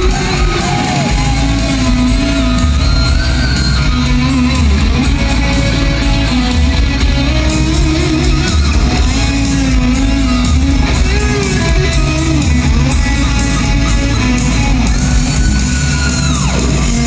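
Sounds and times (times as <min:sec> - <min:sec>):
electric guitar lead bending notes: 0:00.0 - 0:17.0
live hard rock band: 0:00.0 - 0:17.0.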